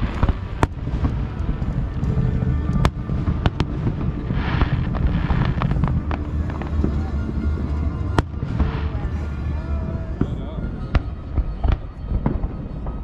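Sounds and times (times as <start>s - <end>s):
fireworks bangs: 0.0s - 13.0s
fireworks crackling: 0.0s - 13.0s
low rumble of booms: 0.0s - 13.0s.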